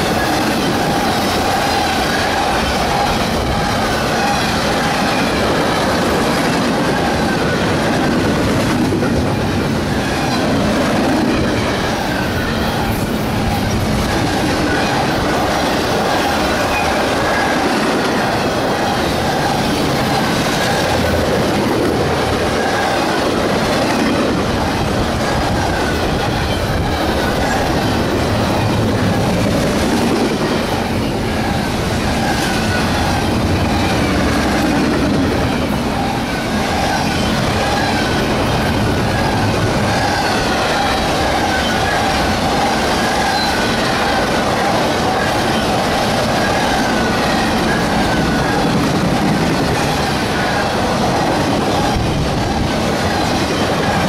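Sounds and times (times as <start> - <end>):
freight train wheels clattering: 0.0 - 54.0.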